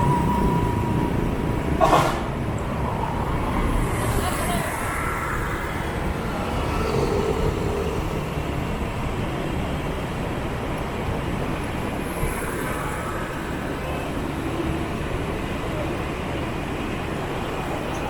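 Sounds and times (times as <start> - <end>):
motorbike and scooter engines: 0.0 - 18.0
road noise: 0.0 - 18.0.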